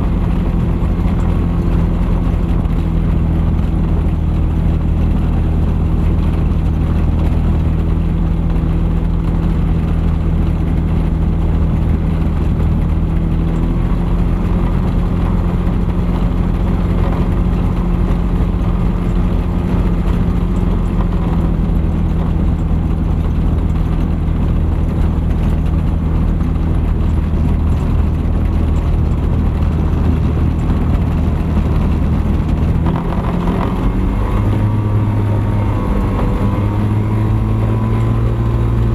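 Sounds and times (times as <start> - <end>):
aircraft engine and propeller running: 0.0 - 38.9.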